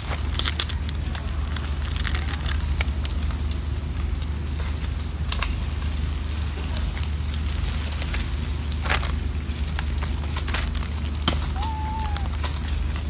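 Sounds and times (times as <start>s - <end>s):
plastic snack packets crackling: 0.0s - 13.0s.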